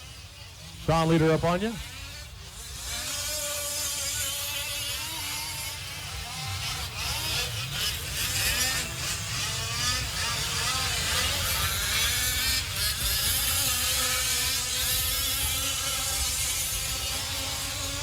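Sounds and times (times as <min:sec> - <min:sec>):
small two-stroke engines buzzing: 0:00.0 - 0:18.0.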